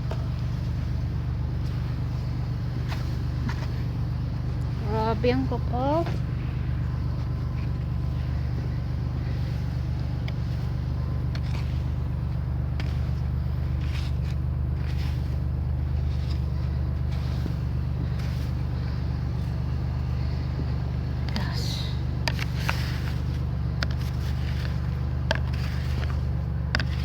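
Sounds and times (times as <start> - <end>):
car engine idling: 0.0 - 27.0
snow scraping off car: 0.0 - 27.0.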